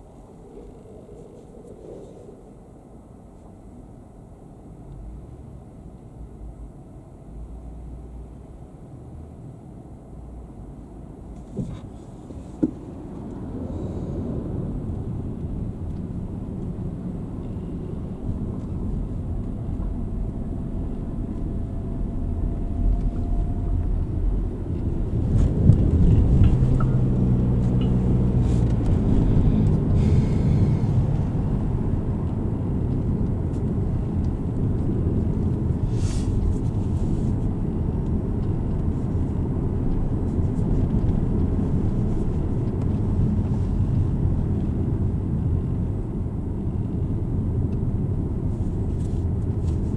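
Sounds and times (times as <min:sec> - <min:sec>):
engine and road rumble: 0:00.0 - 0:49.9.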